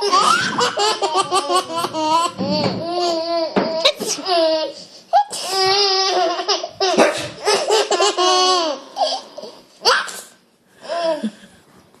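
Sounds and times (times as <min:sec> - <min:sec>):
children laughing: 0:00.0 - 0:10.0.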